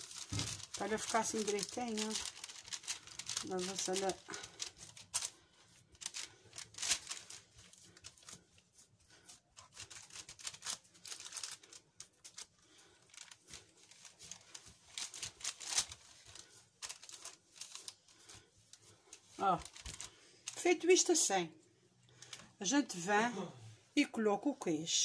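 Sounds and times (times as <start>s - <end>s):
parchment paper rustling: 0.0s - 24.8s.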